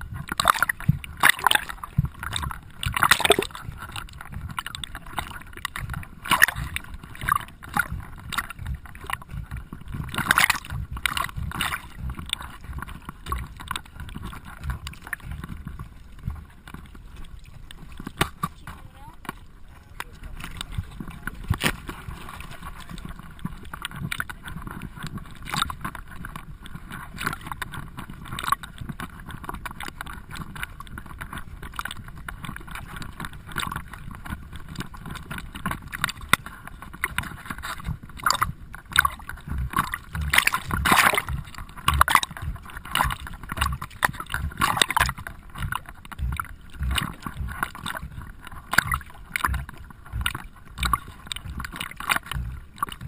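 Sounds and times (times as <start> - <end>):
water splashing and lapping: 0.0 - 53.0.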